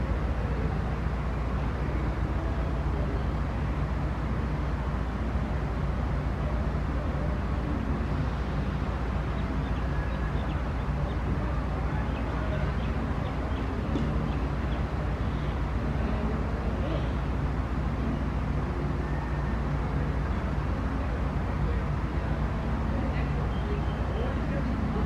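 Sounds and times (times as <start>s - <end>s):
faint hum: 0.0s - 25.0s
low outdoor background rumble: 0.0s - 25.0s.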